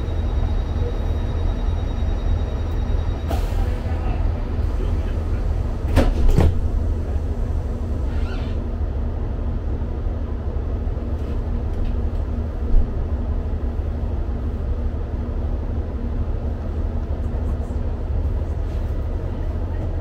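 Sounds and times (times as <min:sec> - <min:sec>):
train idling rumble: 0:00.0 - 0:20.0.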